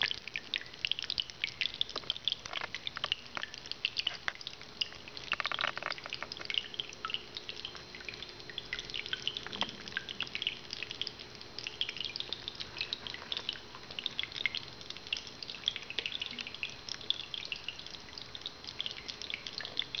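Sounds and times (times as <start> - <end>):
faint steady hum: 0.0 - 20.0
fountain water trickling: 0.0 - 20.0.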